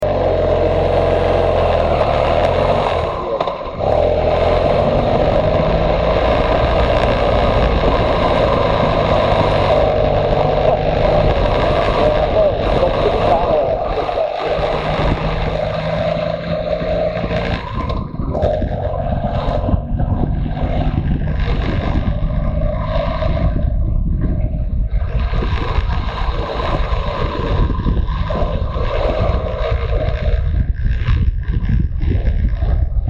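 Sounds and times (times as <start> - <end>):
motorcycle engine running: 0.0 - 33.0
wind rush on microphone: 0.0 - 33.0.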